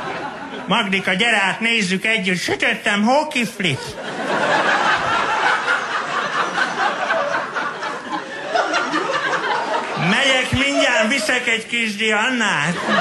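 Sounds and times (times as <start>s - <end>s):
audience laughing: 0.0s - 1.3s, 3.4s - 13.0s.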